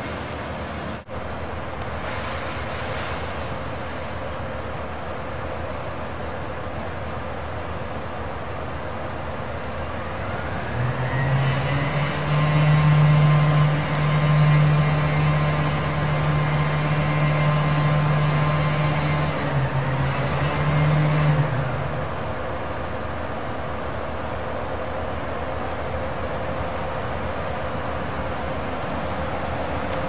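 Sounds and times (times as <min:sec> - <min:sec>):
crane engine revving: 0:00.0 - 0:24.7.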